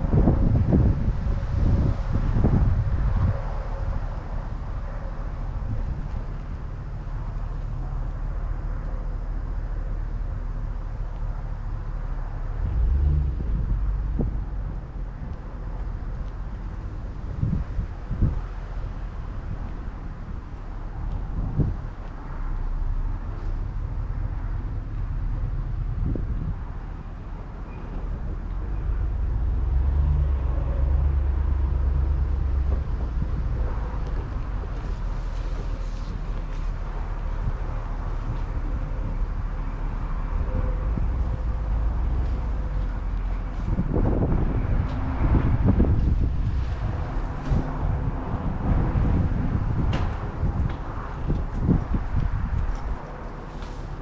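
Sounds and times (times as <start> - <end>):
vehicle rumble: 0.0 - 54.0
wind buffeting microphone: 0.0 - 54.0.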